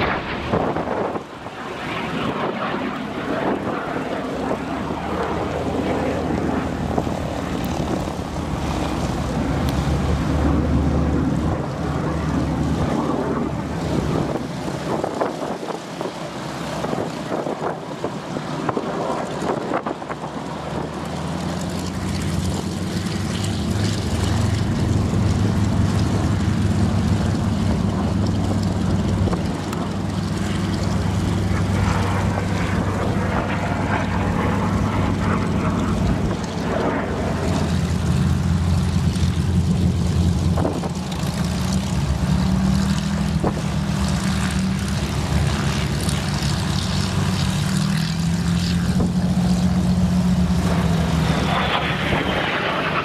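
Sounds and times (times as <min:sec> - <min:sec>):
jet engine noise: 0:00.0 - 0:53.0.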